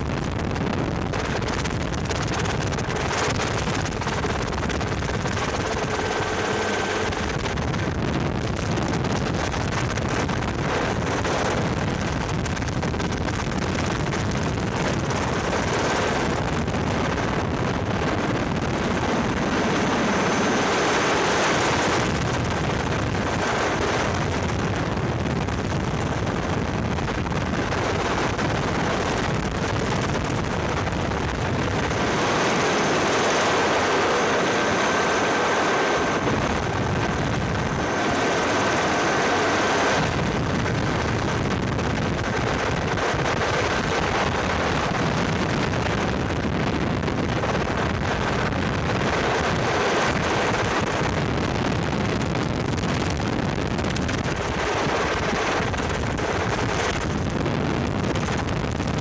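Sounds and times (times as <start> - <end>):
helicopter engine and rotor drone: 0.0 - 59.0
wind on the microphone: 0.0 - 59.0.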